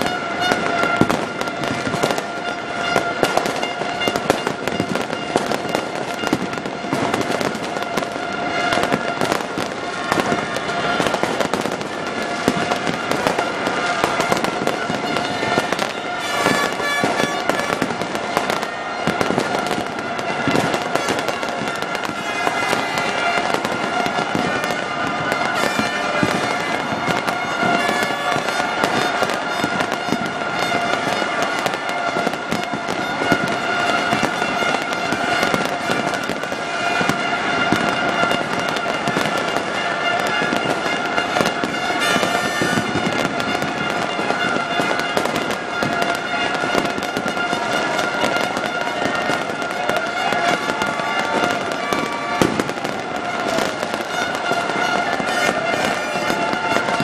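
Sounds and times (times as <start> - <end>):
fireworks crackling and popping: 0.0 - 57.0
steady horn-like drone: 0.0 - 57.0.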